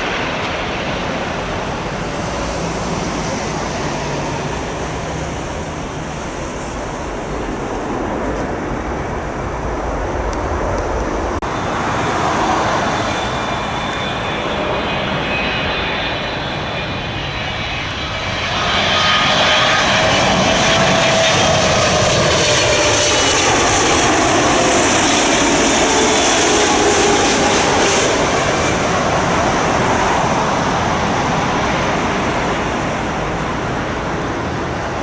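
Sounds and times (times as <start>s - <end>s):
engine whine: 0.0s - 35.0s
jet airliner engines roaring: 0.0s - 35.0s.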